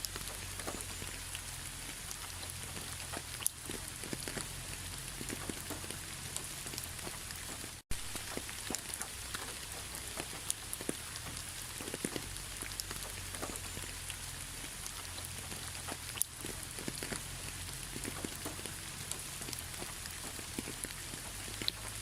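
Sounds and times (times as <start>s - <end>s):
raindrops tapping: 0.0s - 22.0s
steady rain: 0.0s - 22.0s.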